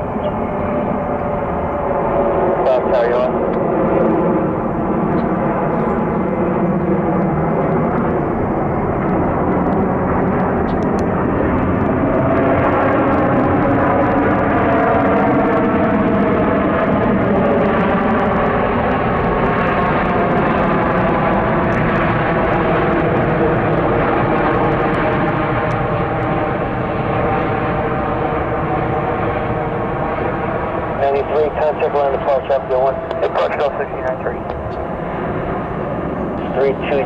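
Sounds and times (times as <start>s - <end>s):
jet engines running loudly: 0.0s - 37.0s.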